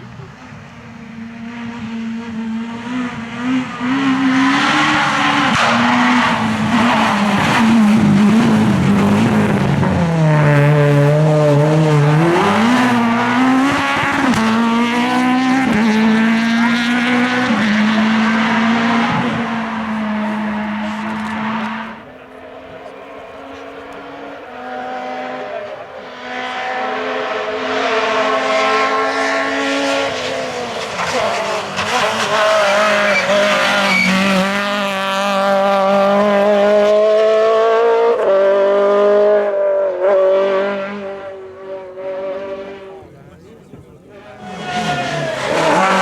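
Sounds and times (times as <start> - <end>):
rally car engine at full throttle: 0.0 - 46.0.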